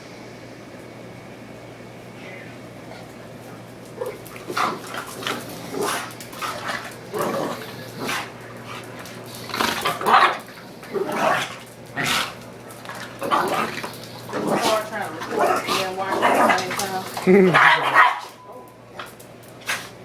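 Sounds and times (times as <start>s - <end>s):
dogs barking and yelping: 3.5s - 19.9s.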